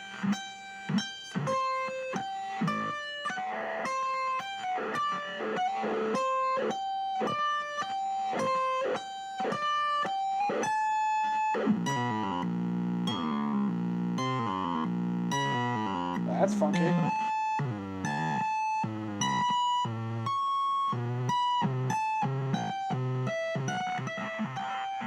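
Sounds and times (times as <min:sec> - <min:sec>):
electric guitar melody: 0:00.0 - 0:25.0.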